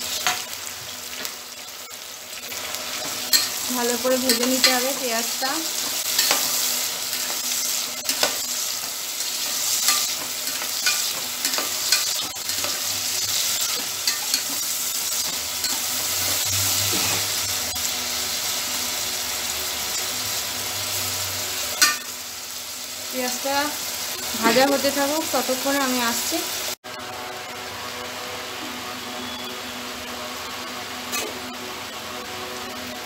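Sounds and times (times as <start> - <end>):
onions sizzling in oil: 0.0 - 33.0.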